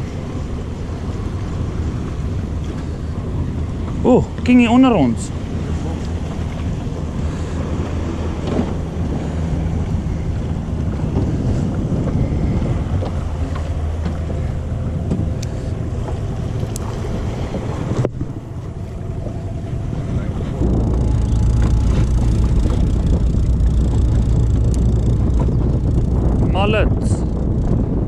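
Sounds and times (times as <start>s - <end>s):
steady low hum: 0.0s - 28.0s
wind buffeting microphone: 0.0s - 28.0s.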